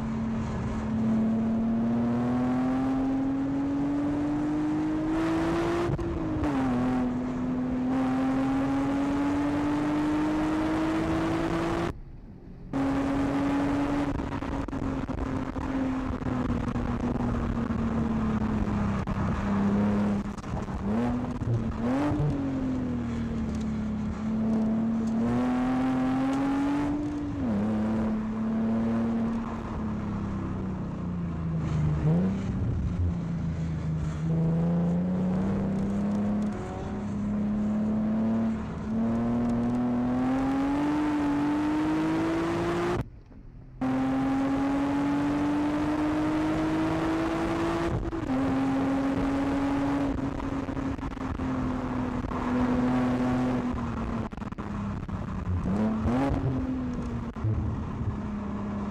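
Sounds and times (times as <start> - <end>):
car engine revving: 0.0 - 12.0, 12.7 - 43.1, 43.8 - 58.9.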